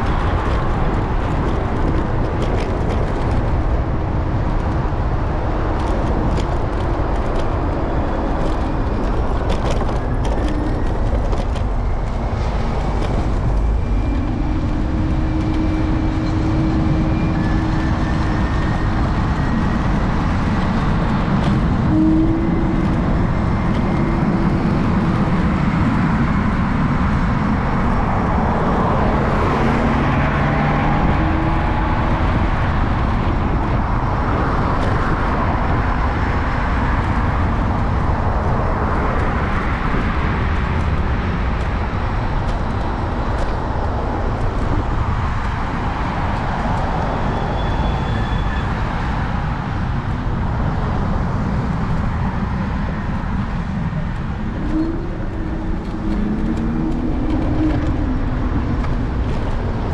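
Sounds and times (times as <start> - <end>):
city street traffic: 0.0 - 59.9
vehicles passing: 0.0 - 59.9
wind rumble on microphone: 0.0 - 59.9.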